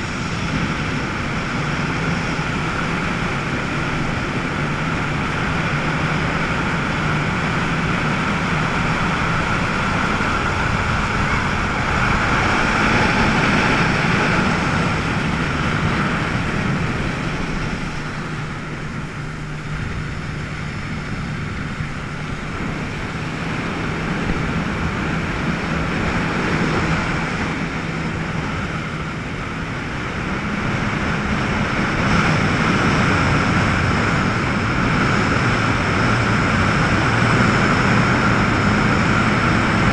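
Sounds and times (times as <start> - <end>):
personal watercraft engine humming: 0.0 - 39.9
rushing water: 0.0 - 39.9.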